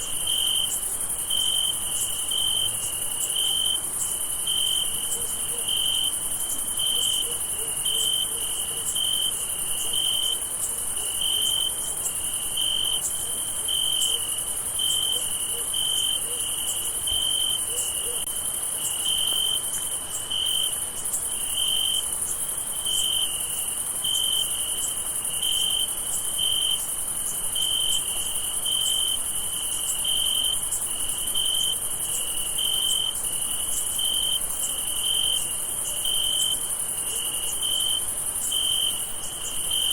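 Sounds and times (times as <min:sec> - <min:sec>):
crickets trilling: 0:00.0 - 0:39.9
low pulsing cricket chirp: 0:00.0 - 0:39.9.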